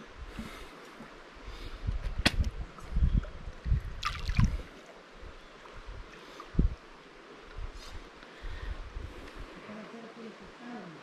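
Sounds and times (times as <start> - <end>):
water splashing and sloshing: 0.2 - 9.6.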